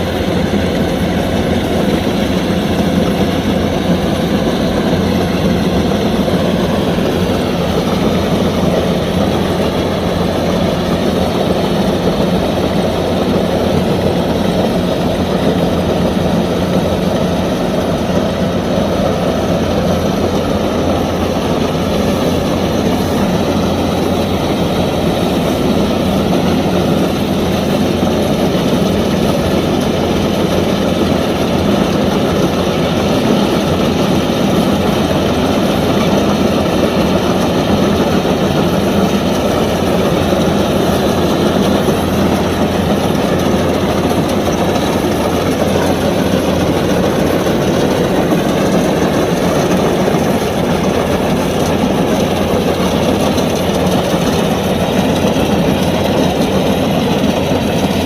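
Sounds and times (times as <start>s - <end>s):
combine harvester engine drone: 0.0s - 58.0s
threshing machinery rattle: 0.0s - 58.0s.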